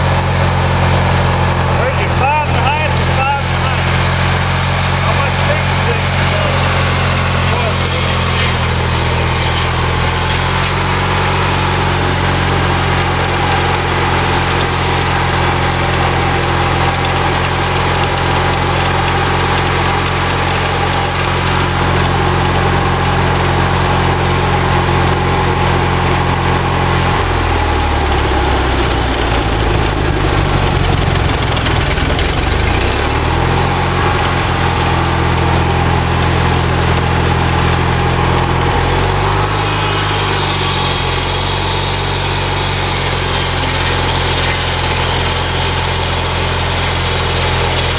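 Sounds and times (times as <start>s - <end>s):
lawnmower engine running: 0.0s - 47.9s.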